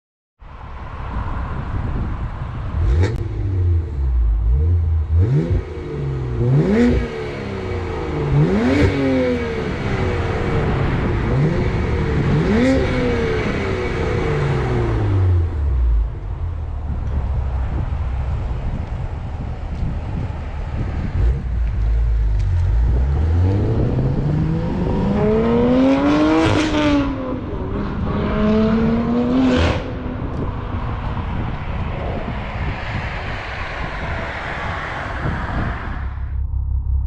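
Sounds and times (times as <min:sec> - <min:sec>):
wind rumble: 0:00.4 - 0:37.0
car engine accelerating: 0:02.7 - 0:37.0.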